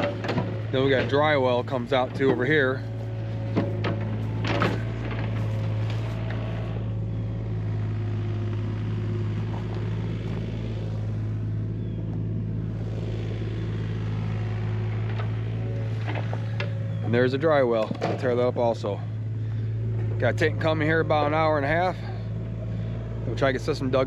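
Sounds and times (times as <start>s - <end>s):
excavator diesel engine droning: 0.0s - 24.0s.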